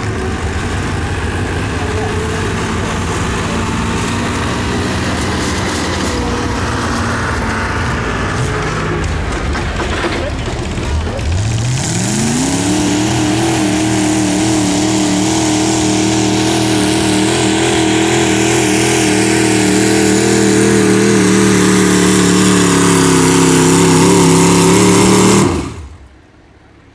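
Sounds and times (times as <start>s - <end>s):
tractor engine at full throttle: 0.0s - 26.9s.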